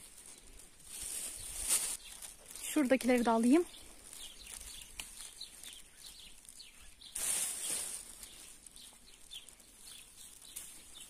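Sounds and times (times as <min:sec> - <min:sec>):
pine branches rustling: 0:00.0 - 0:11.0
small birds chirping: 0:00.1 - 0:11.0.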